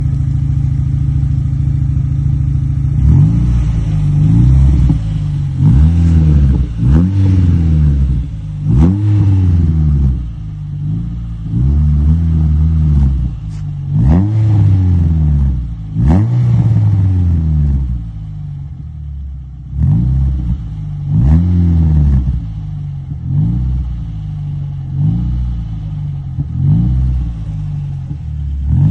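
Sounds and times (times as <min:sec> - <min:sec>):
exhaust cracks: 0:00.0 - 0:18.2, 0:19.6 - 0:28.9
car engine revving: 0:00.0 - 0:28.9.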